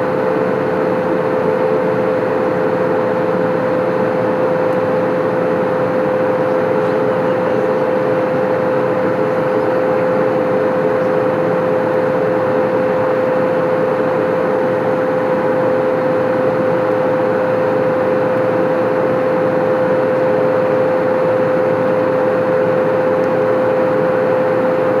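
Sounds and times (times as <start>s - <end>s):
aircraft cabin airflow and engine noise: 0.0s - 25.0s.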